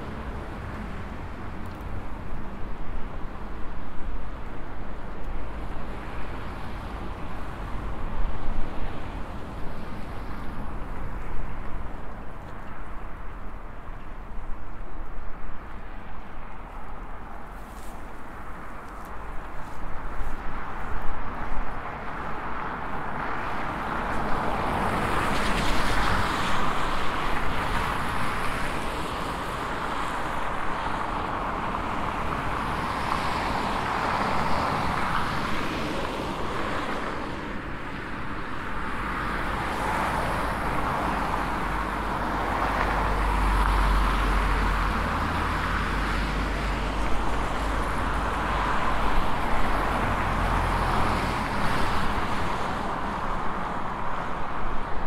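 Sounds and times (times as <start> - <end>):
cars passing: 0.0 - 55.0.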